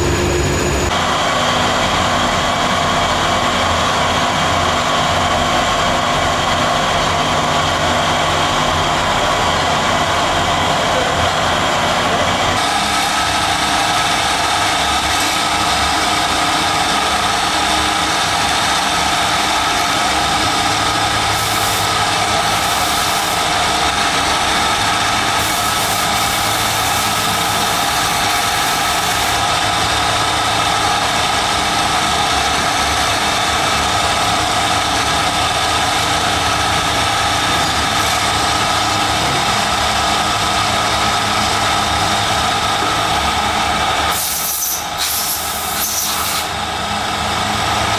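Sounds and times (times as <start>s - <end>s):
factory machinery drone: 0.0s - 47.9s.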